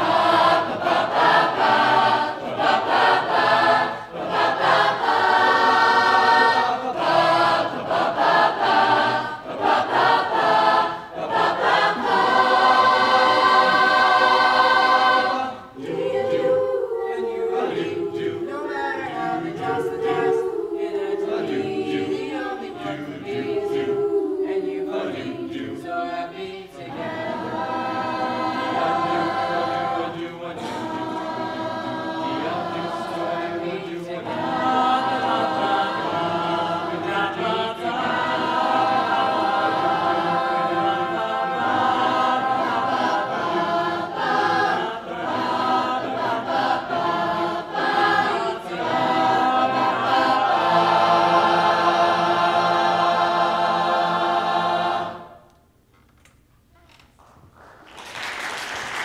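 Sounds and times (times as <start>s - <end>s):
choir singing in harmony: 0.0s - 55.5s.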